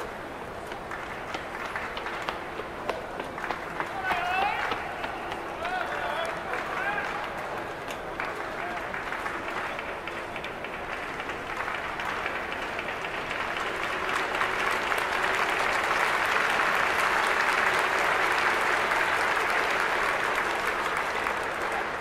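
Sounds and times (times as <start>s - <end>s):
crowd clapping and cheering: 0.0s - 22.0s.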